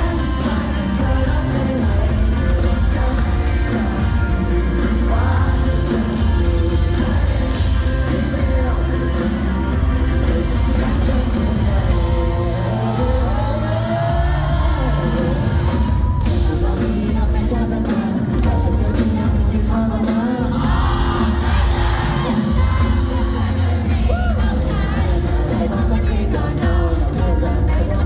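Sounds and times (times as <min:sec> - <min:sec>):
audience yelling and cheering: 0:00.0 - 0:28.0
live pop-rock band with singer: 0:00.0 - 0:28.0.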